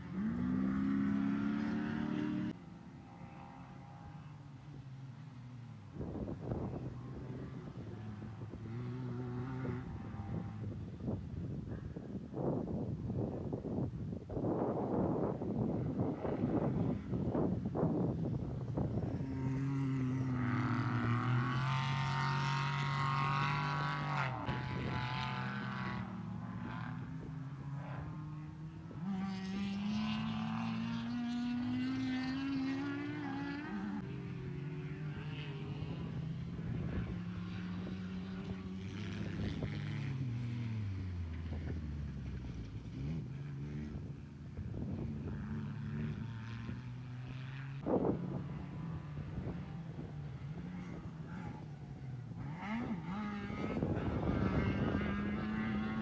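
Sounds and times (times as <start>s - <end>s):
off-road vehicle engine revving: 0.0s - 4.3s, 6.0s - 11.2s, 14.5s - 56.0s.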